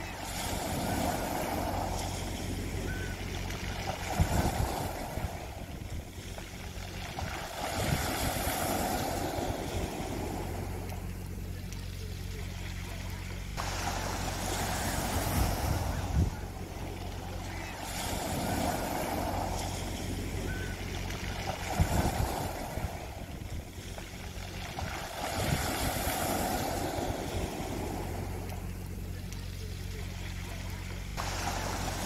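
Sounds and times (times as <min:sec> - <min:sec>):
low engine hum: 0:00.0 - 0:32.0
waves washing over pebbles: 0:00.0 - 0:32.0.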